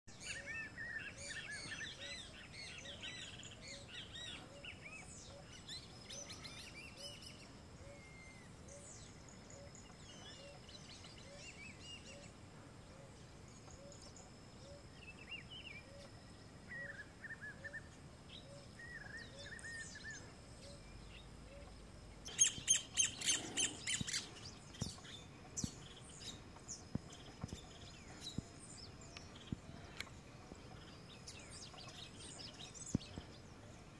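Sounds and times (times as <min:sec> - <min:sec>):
high insect hum: 0:00.1 - 0:33.9
wild birds calling and chirping: 0:00.1 - 0:33.9.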